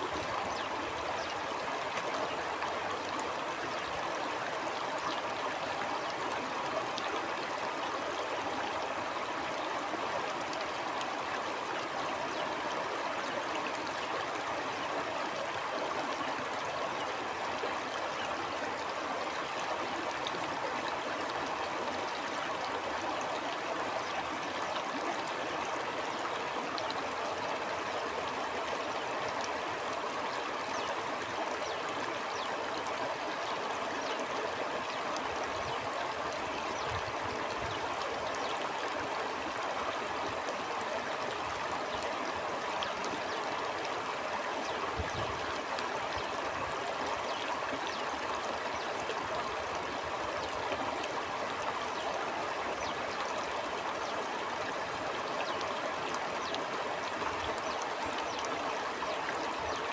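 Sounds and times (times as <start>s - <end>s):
shallow stream babbling: 0.0s - 59.9s.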